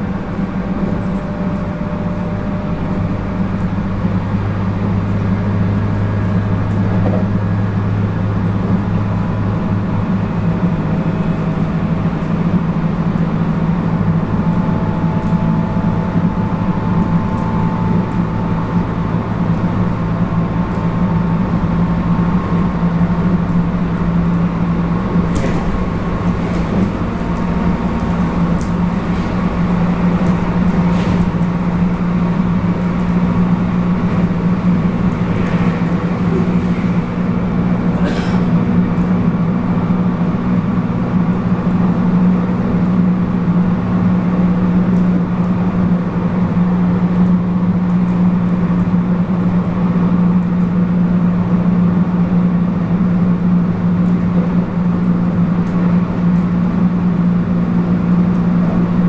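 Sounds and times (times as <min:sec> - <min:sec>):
train motors droning: 0:00.0 - 0:59.0
wheel-on-rail rumble: 0:00.0 - 0:59.0.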